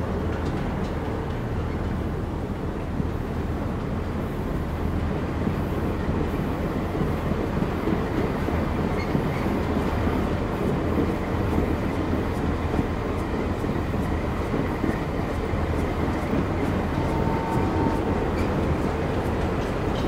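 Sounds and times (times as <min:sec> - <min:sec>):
train deep rumbling: 0:00.0 - 0:20.0.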